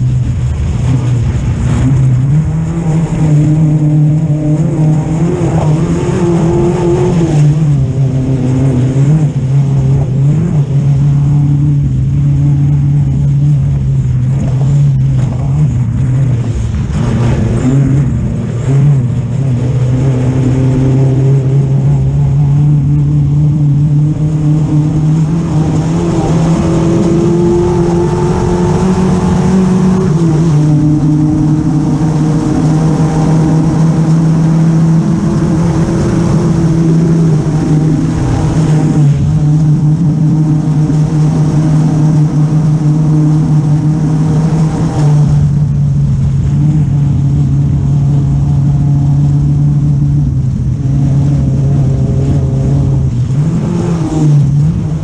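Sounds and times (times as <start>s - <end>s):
racing buggy engine: 0.0s - 55.0s.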